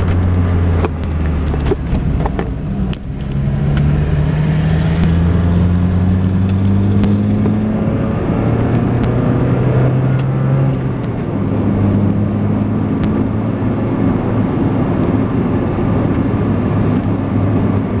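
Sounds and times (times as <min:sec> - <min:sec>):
car engine accelerating: 0:00.0 - 0:18.0
road noise: 0:00.0 - 0:18.0.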